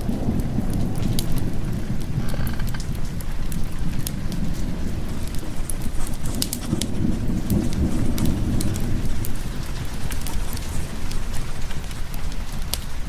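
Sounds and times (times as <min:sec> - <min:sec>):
sharp crackling clicks: 0:00.0 - 0:12.9
rolling thunder rumble: 0:00.0 - 0:13.0
steady rain: 0:00.0 - 0:13.0.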